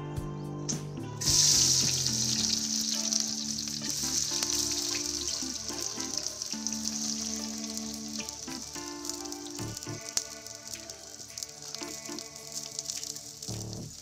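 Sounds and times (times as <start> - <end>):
onion sizzling in hot oil: 1.2 - 14.0.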